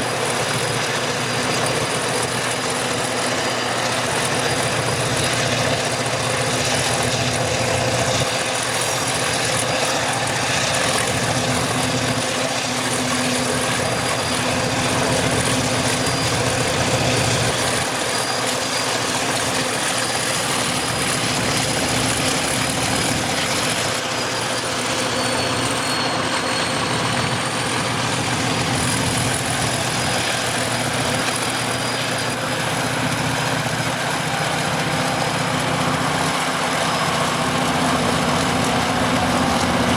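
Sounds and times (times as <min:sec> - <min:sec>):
high-pitched whine: 0:00.0 - 0:32.6
diesel locomotive engines rumbling: 0:00.0 - 0:39.9.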